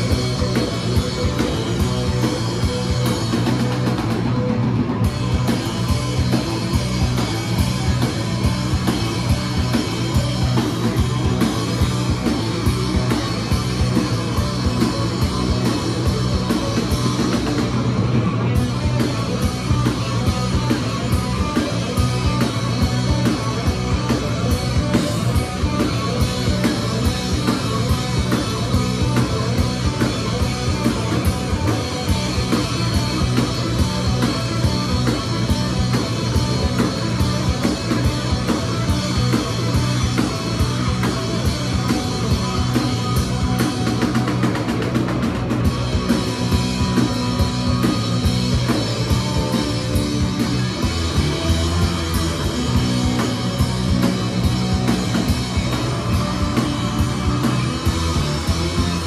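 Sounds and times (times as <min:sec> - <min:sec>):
bass guitars: 0:00.0 - 0:59.0
driving drum kit: 0:00.0 - 0:59.0.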